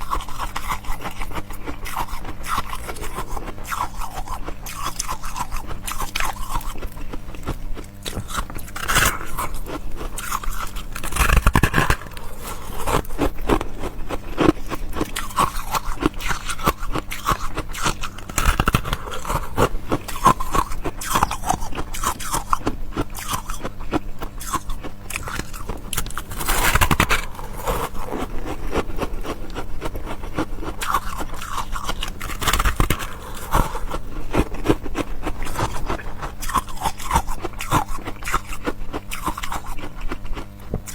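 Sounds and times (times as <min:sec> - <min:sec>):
person chewing ice: 0:00.0 - 0:40.9.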